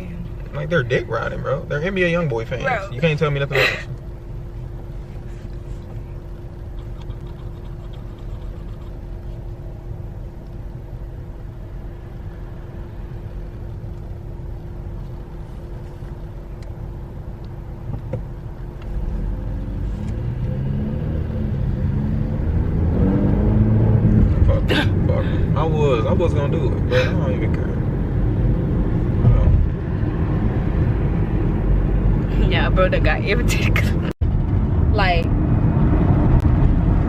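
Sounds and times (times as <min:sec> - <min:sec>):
car engine and road rumble: 0:00.0 - 0:37.0
constant hum: 0:00.0 - 0:37.0.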